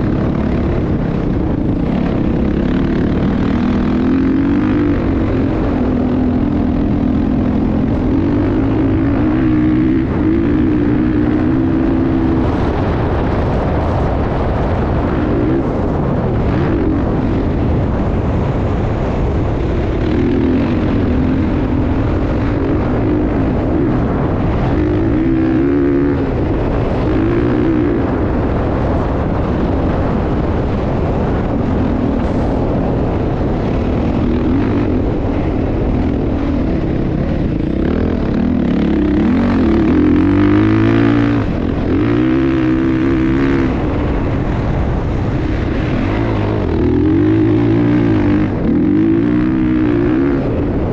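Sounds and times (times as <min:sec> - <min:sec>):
motocross motorcycle engine revving: 0:00.0 - 0:50.9.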